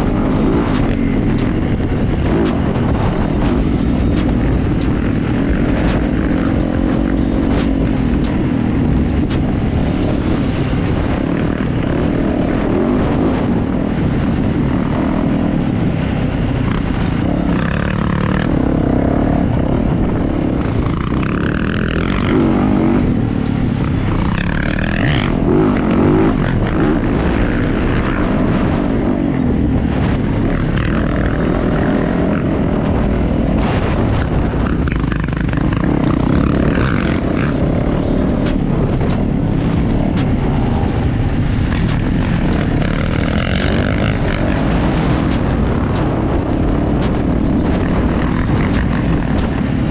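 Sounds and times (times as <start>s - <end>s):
dirt bike engine revving: 0.0s - 49.9s
wind rumble on microphone: 0.0s - 49.9s.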